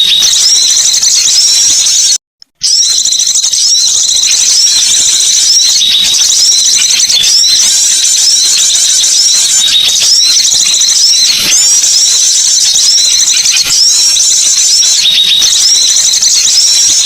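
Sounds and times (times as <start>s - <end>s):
songbirds chattering: 2.7s - 17.0s.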